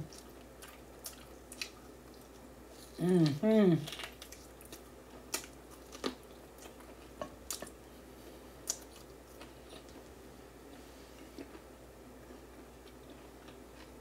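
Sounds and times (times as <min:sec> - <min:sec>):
person chewing: 0:00.0 - 0:10.1, 0:10.7 - 0:14.0.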